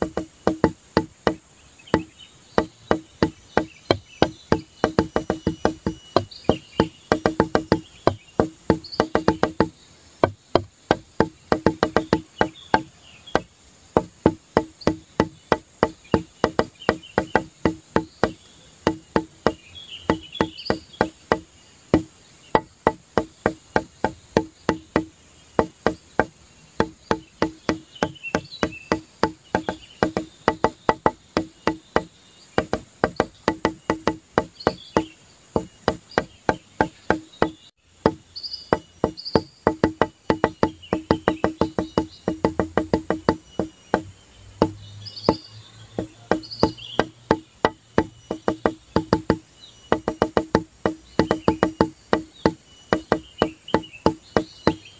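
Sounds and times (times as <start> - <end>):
background music with clicking beat: 0.0 - 54.9.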